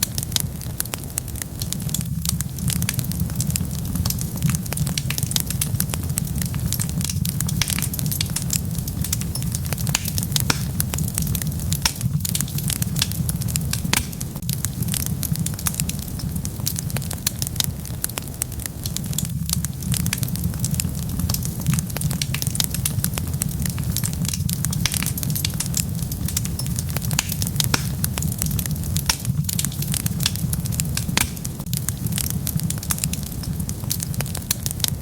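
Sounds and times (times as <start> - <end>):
flames rumbling: 0.0 - 35.0
wood fire crackling and popping: 0.0 - 35.0.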